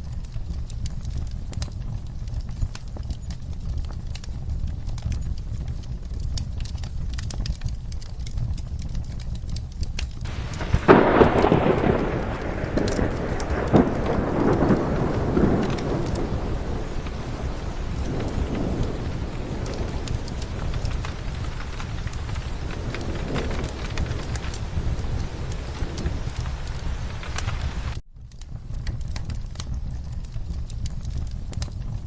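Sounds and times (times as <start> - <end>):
fire crackling: 0.0 - 32.0
steady rain: 0.0 - 32.0
thunder clap and rumble: 0.0 - 32.0.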